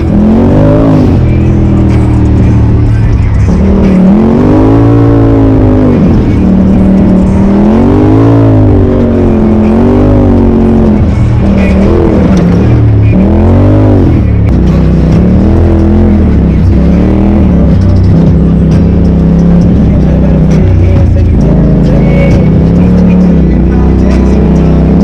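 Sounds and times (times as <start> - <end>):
engine revving under load: 0.0 - 25.0.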